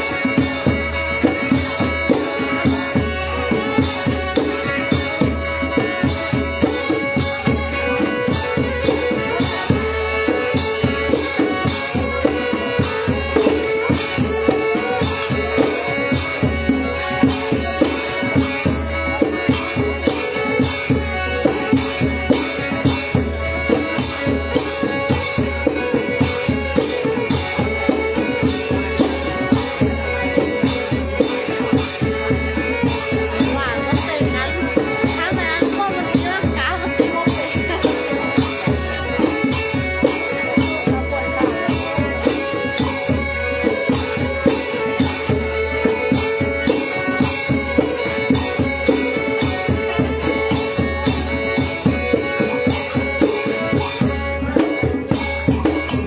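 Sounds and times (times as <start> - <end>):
hand drums: 0.0 - 56.0
held melody line: 0.0 - 56.0
rattling percussion: 0.0 - 56.0.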